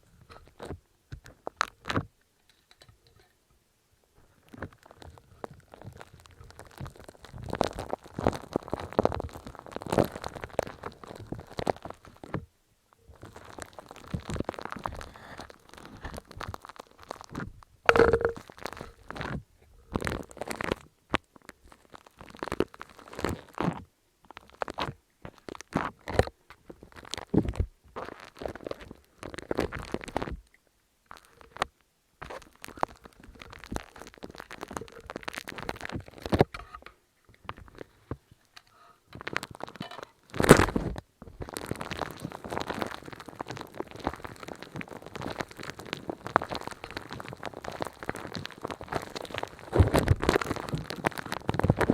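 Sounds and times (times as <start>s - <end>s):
wet crackly squishing and crunching: 4.4s - 12.4s, 13.1s - 30.4s, 31.1s - 36.5s, 37.4s - 51.9s.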